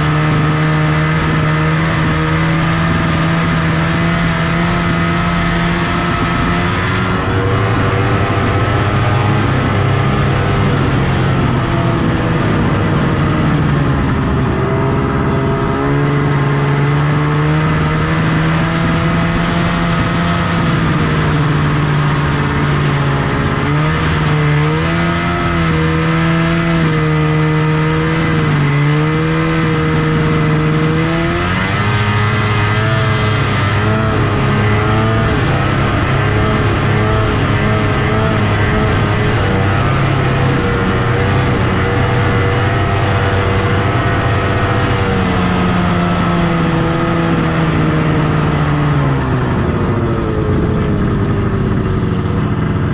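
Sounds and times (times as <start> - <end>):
snowmobile engine running: 0.0 - 52.9.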